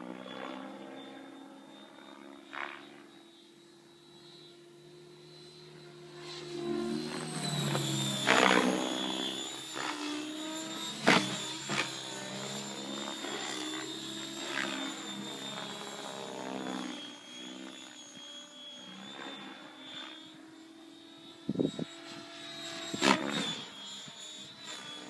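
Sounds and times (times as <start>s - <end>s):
rc helicopter motor and rotor whine: 0.0s - 25.0s.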